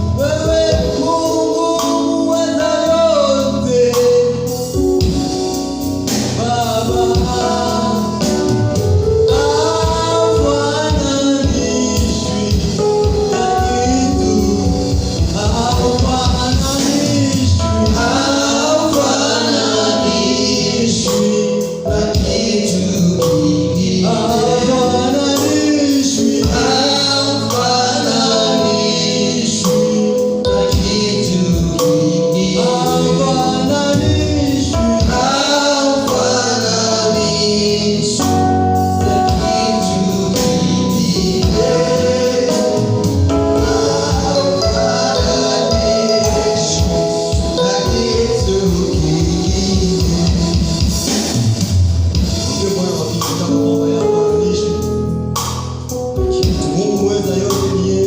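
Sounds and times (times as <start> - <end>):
lead singer and choir singing: 0.0 - 4.9, 6.1 - 51.4
steady beat: 4.5 - 37.4, 38.0 - 53.8.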